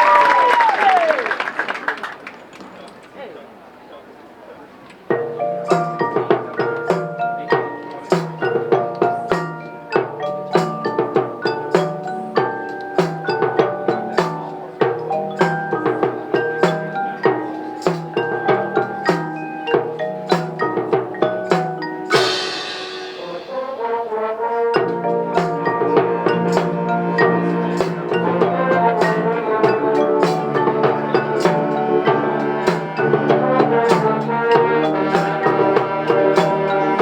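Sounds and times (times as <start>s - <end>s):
mallet percussion notes: 5.0s - 37.0s.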